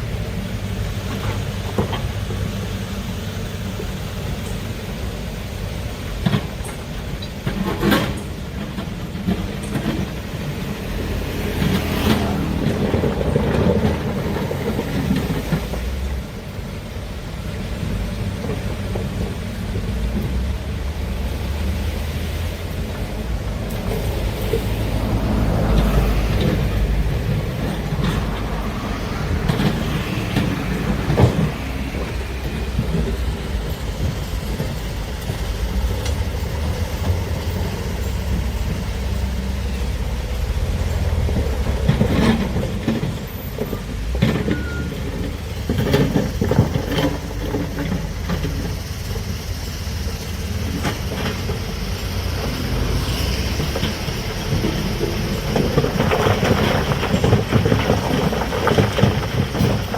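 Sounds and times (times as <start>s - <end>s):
excavator clanks and knocks: 0.0s - 59.9s
excavator diesel engine rumble: 0.0s - 59.9s.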